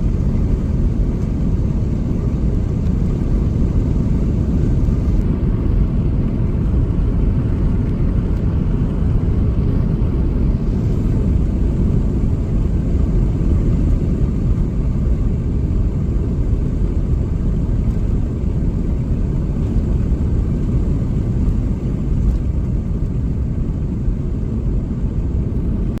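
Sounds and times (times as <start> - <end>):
car interior road and engine noise: 0.0 - 26.0.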